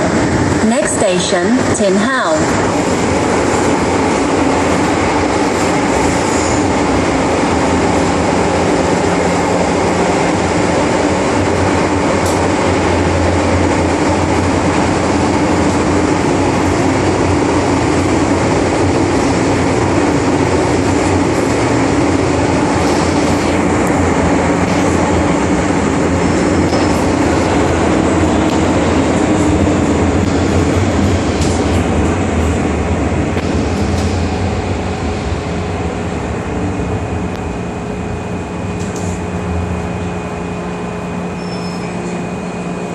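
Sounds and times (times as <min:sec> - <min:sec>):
metro train rumbling in tunnel: 0:00.0 - 0:42.9.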